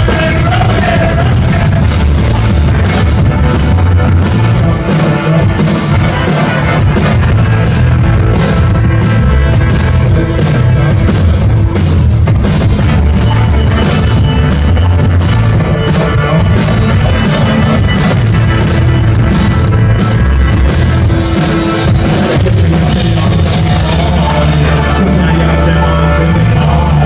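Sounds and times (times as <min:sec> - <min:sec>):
drum kit beat: 0:00.0 - 0:27.0
live rock band playing: 0:00.0 - 0:27.0.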